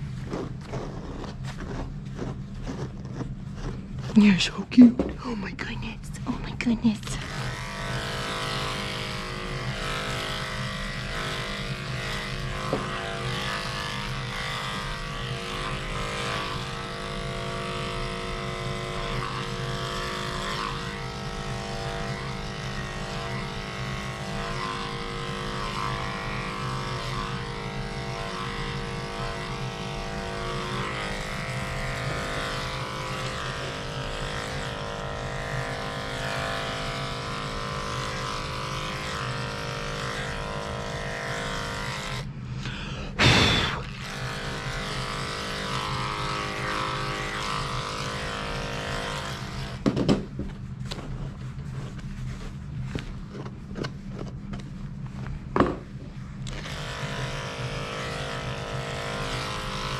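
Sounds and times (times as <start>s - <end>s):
dog clippers running: 0.0s - 51.2s, 52.8s - 54.7s, 55.5s - 59.9s.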